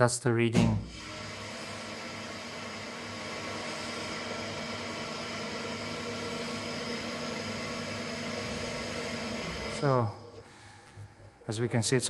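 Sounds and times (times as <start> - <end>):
grinding machine humming: 0.8 - 12.0.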